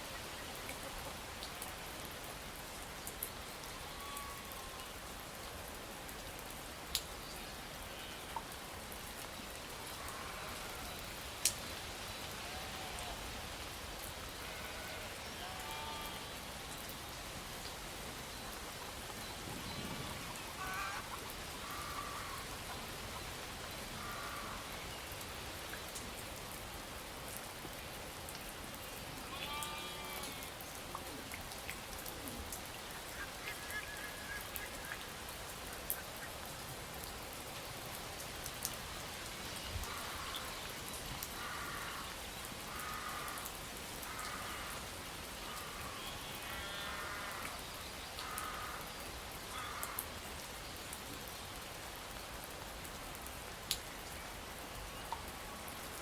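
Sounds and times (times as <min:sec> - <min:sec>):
rain-like hiss: 0:00.0 - 0:56.0.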